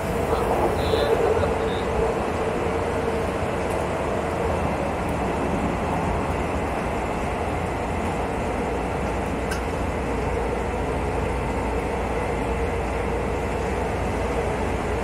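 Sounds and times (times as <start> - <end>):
electric train running on track: 0.0 - 15.0
train humming tone: 0.0 - 15.0.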